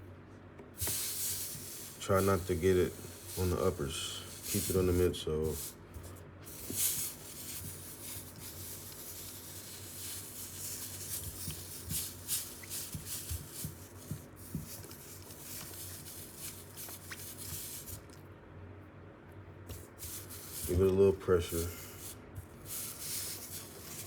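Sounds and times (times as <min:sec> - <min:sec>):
iron rubbing over wet cloth: 0:00.8 - 0:18.2, 0:19.7 - 0:24.0.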